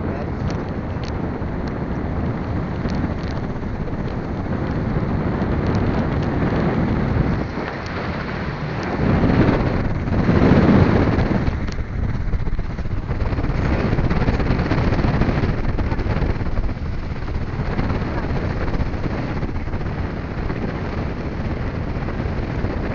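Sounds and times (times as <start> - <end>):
vehicle rumbling on dirt road: 0.0 - 22.9
wind buffeting microphone: 0.0 - 22.9.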